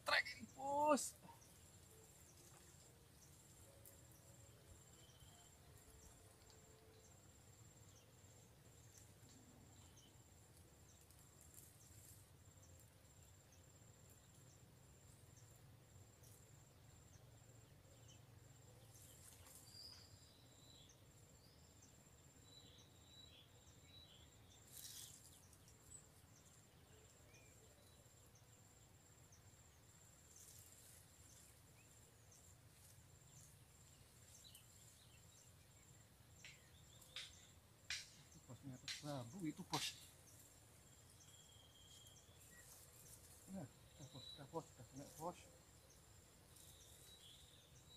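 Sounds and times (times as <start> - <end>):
faint bird chirps: 0.0 - 10.3, 10.9 - 47.9
insect pulsing chirp: 0.0 - 47.9.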